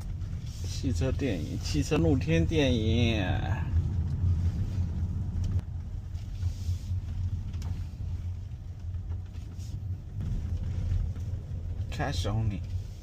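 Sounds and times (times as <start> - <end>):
car rolling slowly: 0.0 - 13.0.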